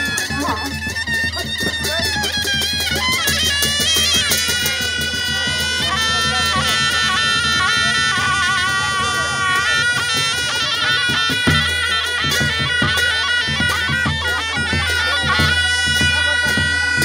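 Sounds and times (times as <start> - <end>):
fast drumming: 0.0 - 17.0
reedy wind instrument melody: 0.0 - 17.0.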